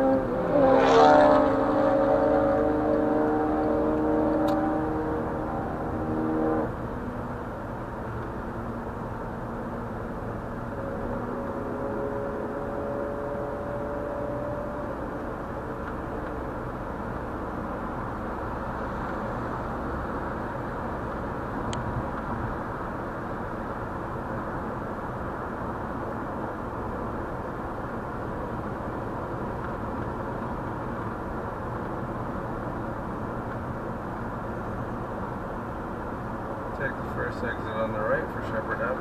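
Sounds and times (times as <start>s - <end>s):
car road and tyre noise: 0.0s - 39.0s.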